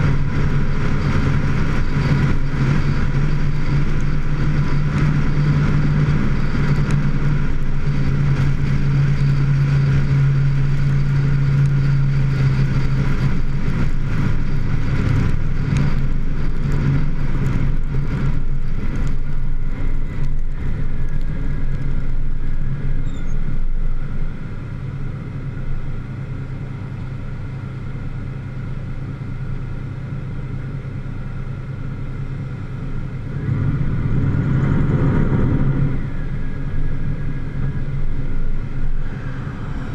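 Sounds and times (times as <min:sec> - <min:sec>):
tyre noise on wet road: 0:00.0 - 0:39.9
vehicle engine running: 0:00.0 - 0:39.9.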